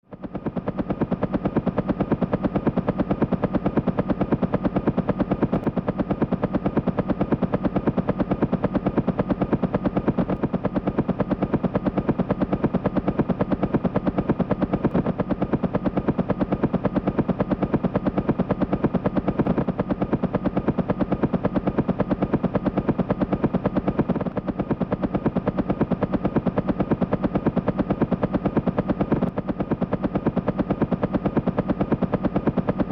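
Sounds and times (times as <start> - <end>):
helicopter rotor beating: 0.1 - 32.9.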